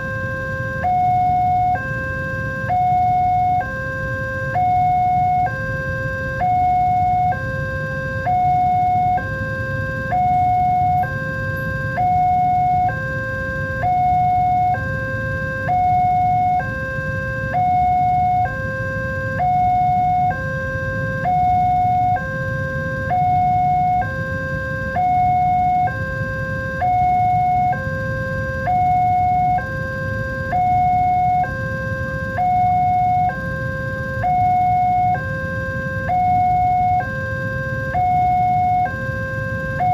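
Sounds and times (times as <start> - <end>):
low steady rumble: 0.0 - 39.9
two-tone level crossing alarm: 0.0 - 39.9.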